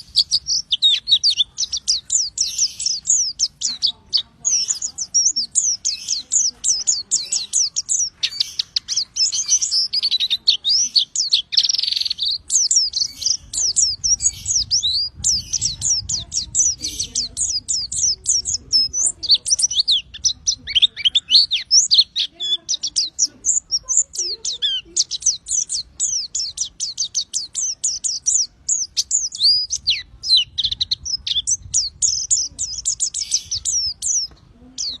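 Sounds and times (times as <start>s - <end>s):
songbird rapid high chirps: 0.0s - 35.0s.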